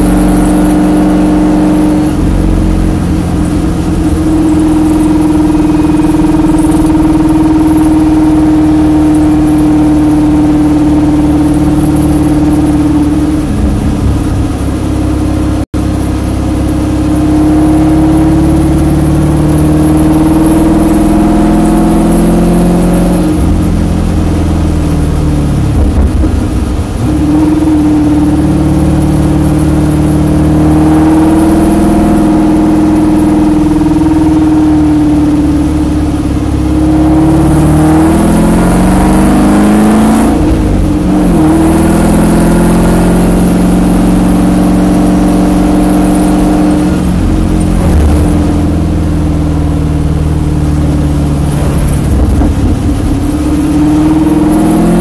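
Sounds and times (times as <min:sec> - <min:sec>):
car engine at low revs: 0:00.0 - 0:55.0.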